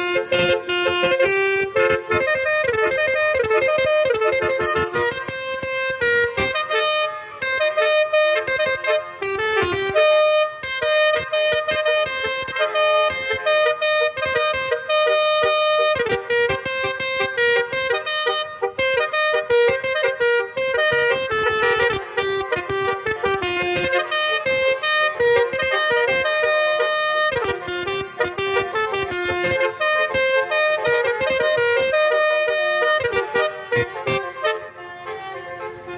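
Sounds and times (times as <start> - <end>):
multi-tone bus horn tune: 0.0 - 35.9.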